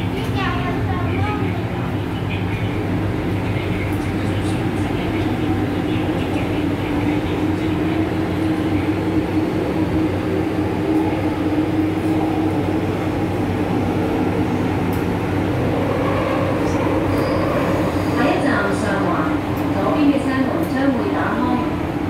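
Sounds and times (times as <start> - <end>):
train equipment hum: 0.0 - 22.0
train wheels rumbling on rail: 0.0 - 22.0.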